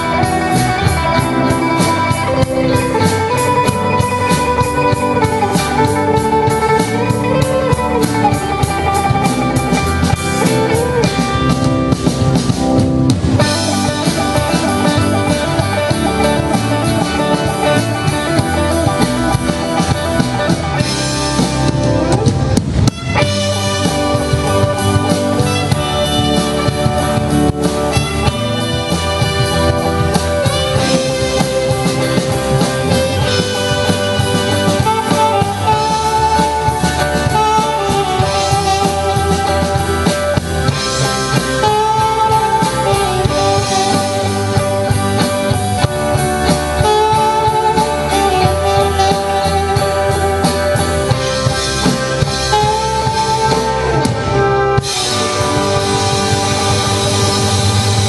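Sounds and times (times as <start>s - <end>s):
bending melody line: 0.0s - 58.0s
drum kit: 0.0s - 58.0s
guitar: 0.0s - 58.0s.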